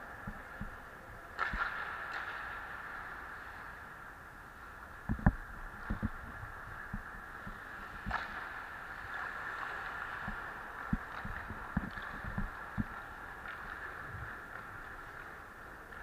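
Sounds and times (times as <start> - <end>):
thumps of skates sticks and pucks: 0.0 - 3.6, 5.0 - 16.0.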